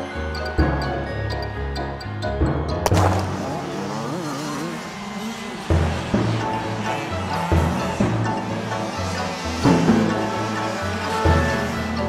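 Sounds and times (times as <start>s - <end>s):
upbeat cartoon music: 0.0s - 4.2s, 5.6s - 12.0s.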